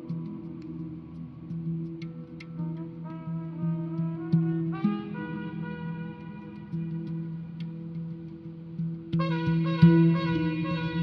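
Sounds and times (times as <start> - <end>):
light percussive ticks: 0.0 - 11.0.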